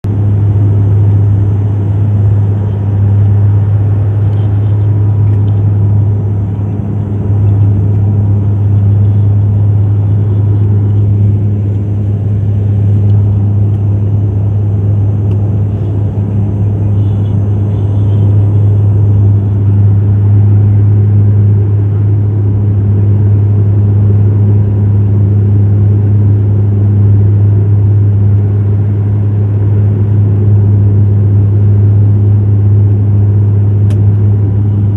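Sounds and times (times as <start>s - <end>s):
airliner engine and airflow noise: 0.0s - 34.9s
constant low hum: 0.0s - 34.9s.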